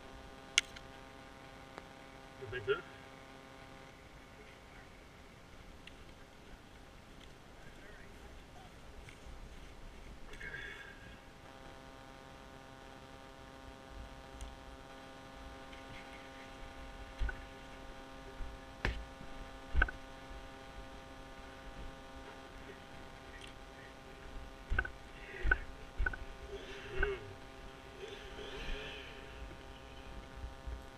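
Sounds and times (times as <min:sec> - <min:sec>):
steady mechanical hum: 0:00.0 - 0:30.9.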